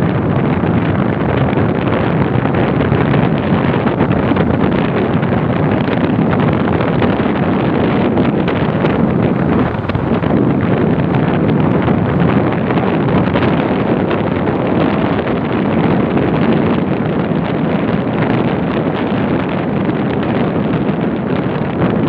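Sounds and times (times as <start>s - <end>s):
motorbike road noise: 0.0s - 22.0s
wind rushing over microphone: 0.0s - 22.0s.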